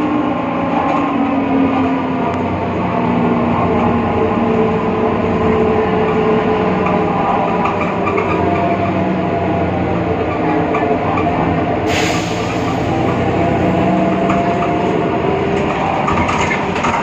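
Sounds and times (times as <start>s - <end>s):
bus running noise: 0.0s - 17.0s.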